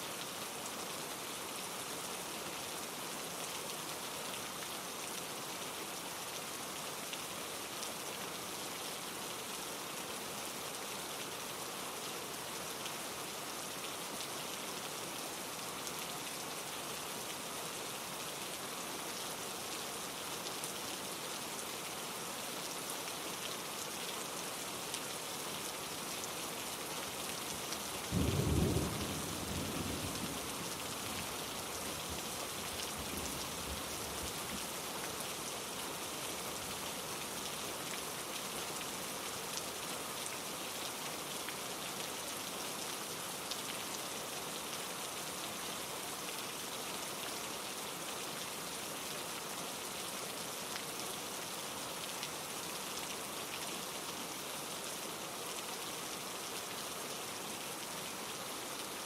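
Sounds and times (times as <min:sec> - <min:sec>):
steady rain: 0:00.0 - 0:59.0
stream rushing over rocks: 0:00.0 - 0:59.0.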